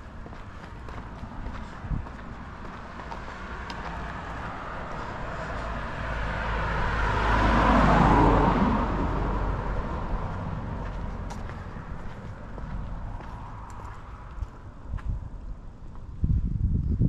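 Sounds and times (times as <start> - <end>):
car passing by: 0.4 - 14.8.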